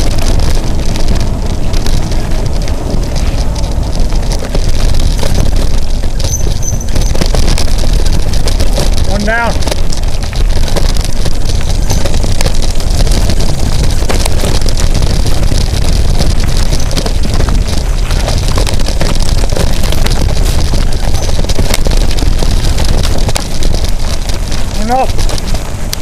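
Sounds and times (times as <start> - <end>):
bike knocks and rattles: 0.0 - 26.0
wind buffeting microphone: 0.0 - 26.0.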